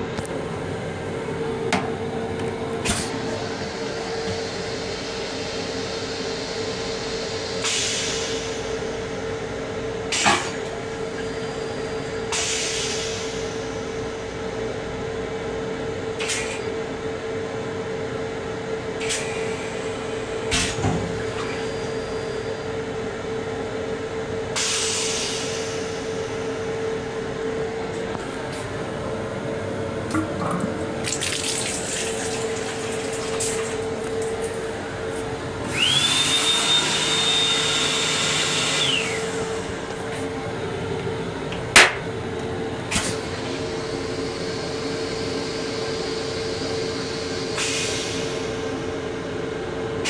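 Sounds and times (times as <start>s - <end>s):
railcar hum: 0.0s - 17.4s, 18.8s - 31.1s, 31.8s - 36.0s, 37.8s - 50.0s.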